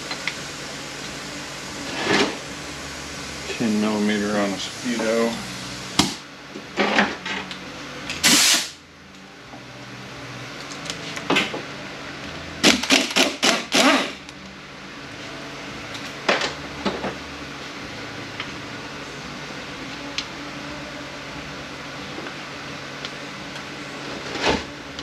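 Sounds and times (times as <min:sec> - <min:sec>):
low shop hum: 0:00.0 - 0:25.0.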